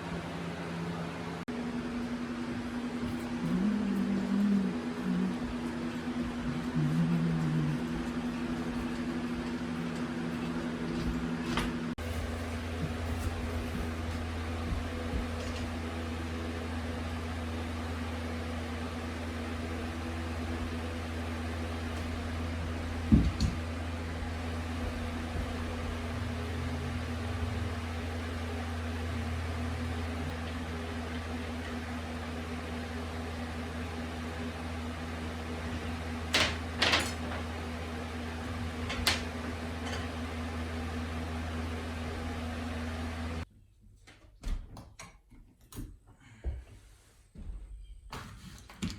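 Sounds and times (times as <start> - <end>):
lower hum: 0.0 - 43.5
machine hum: 0.0 - 43.5.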